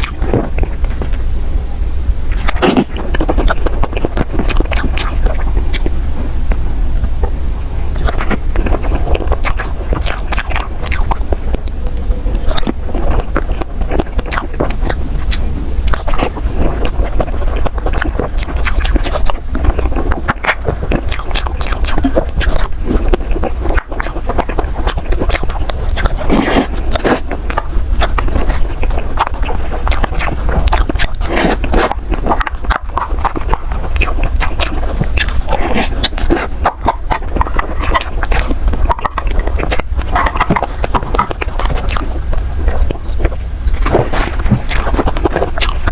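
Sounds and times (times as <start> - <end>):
biting and chewing: 0.0 - 45.9
steady low hum: 0.0 - 45.9.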